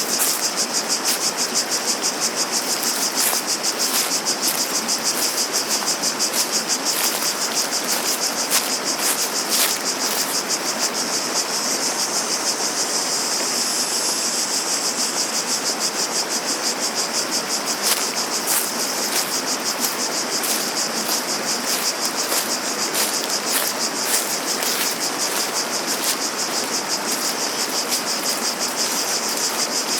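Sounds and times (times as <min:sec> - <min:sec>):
flowing water rushing: 0:00.0 - 0:11.0, 0:16.6 - 0:29.9
cicadas buzzing: 0:00.0 - 0:29.9.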